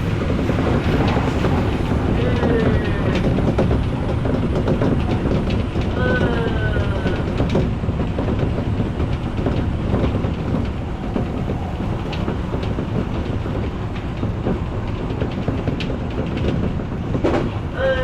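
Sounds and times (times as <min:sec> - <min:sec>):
electric train rumbling on rails: 0:00.0 - 0:18.0.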